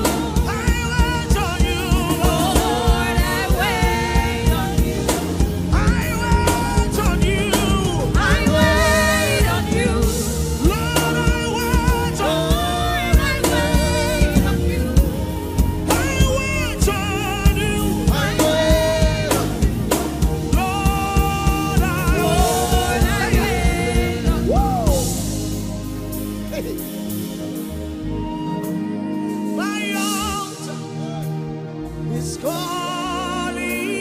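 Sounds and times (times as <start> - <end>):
steady drum beat: 0.0 - 27.8.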